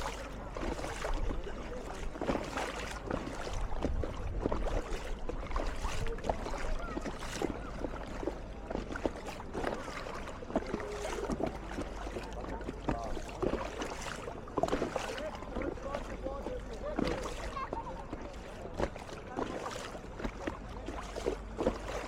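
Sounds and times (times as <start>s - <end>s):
paddle splashing: 0.0s - 22.0s
water lapping: 0.0s - 22.0s.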